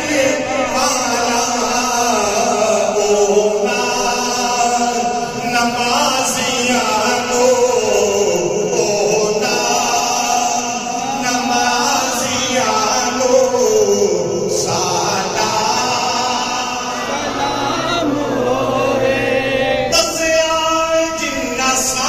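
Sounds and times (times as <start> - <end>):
men chanting devotional song: 0.0 - 22.0.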